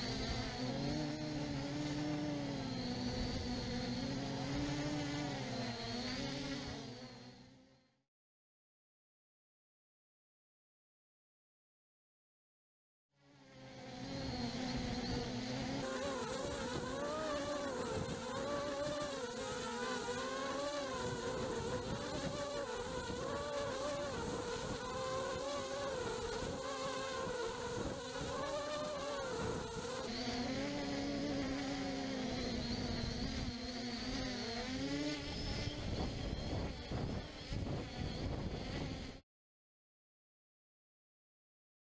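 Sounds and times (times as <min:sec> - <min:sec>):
drone propellers buzzing: 0:00.0 - 0:07.8, 0:13.2 - 0:39.2.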